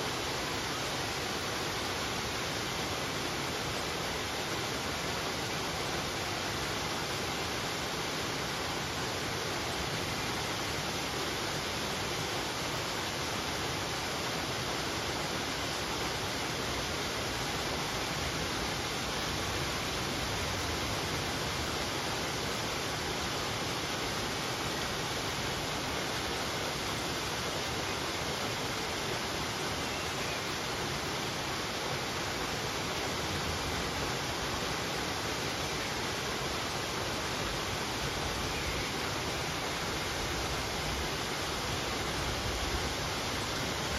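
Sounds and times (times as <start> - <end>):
small waterfall rushing: 0.0 - 43.9.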